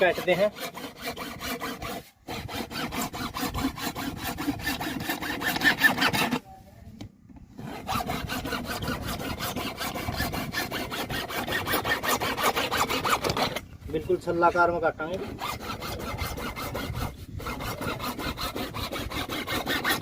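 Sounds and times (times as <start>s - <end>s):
hand saw cutting pipe: 0.0s - 6.4s, 7.6s - 20.0s.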